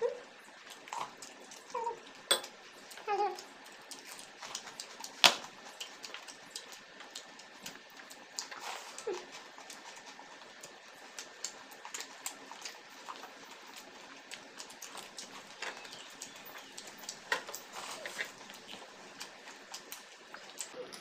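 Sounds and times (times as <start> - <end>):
chewing and lip-smacking: 0.1 - 21.0.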